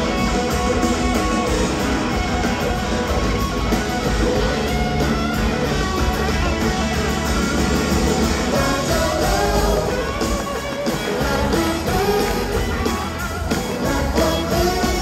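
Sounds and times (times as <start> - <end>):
bass: 0.0 - 15.0
electric guitars: 0.0 - 15.0
keyboards: 0.0 - 15.0.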